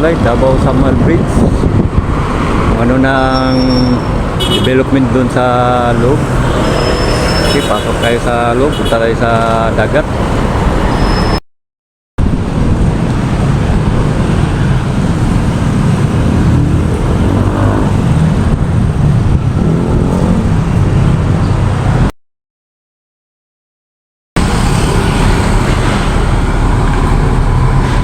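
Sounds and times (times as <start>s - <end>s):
road traffic passing: 0.0s - 11.4s, 12.2s - 22.2s, 24.4s - 28.0s.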